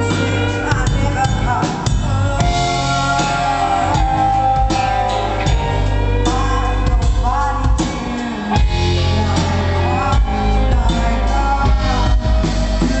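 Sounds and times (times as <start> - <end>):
bass: 0.0 - 13.0
drums: 0.0 - 13.0
electric guitar: 0.0 - 13.0
person singing lead vocal: 0.0 - 13.0.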